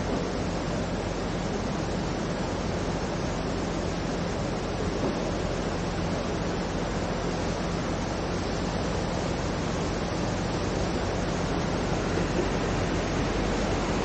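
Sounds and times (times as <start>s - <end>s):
floodwater rushing through stream: 0.0s - 14.0s.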